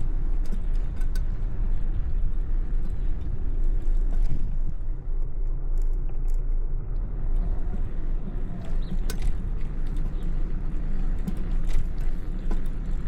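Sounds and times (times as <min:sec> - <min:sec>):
bicycle riding noise: 0:00.0 - 0:13.0
street traffic rumble: 0:00.0 - 0:13.0.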